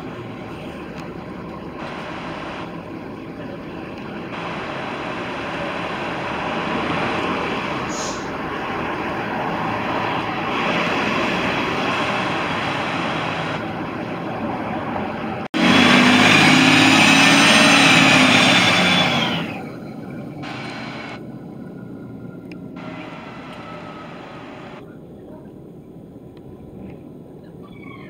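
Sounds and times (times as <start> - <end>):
bus engine running: 0.0 - 24.9
engine high whine: 0.0 - 25.0.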